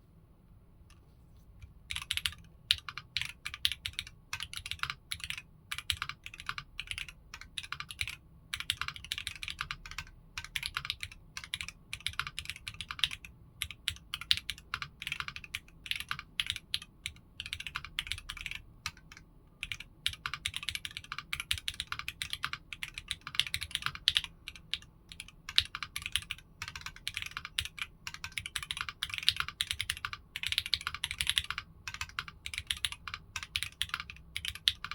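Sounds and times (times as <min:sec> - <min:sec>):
mechanical keyboard typing: 0:01.8 - 0:34.9.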